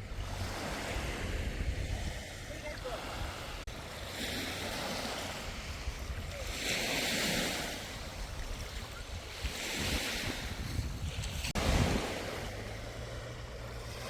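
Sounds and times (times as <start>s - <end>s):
waves washing in: 0.0s - 14.0s
wind rumbling on microphone: 0.0s - 14.0s.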